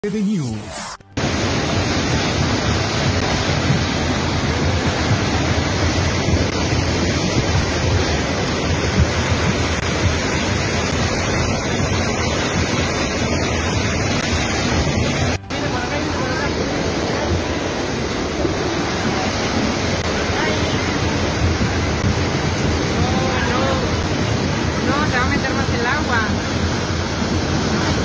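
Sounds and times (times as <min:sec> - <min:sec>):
floodwater rushing: 0:00.1 - 0:28.0.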